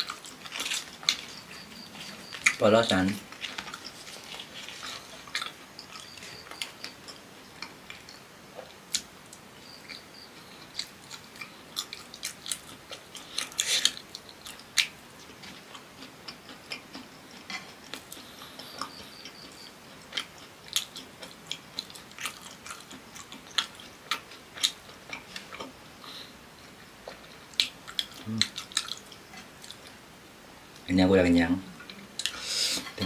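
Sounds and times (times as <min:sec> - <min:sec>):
crunchy chewing and biting: 0:00.0 - 0:30.0.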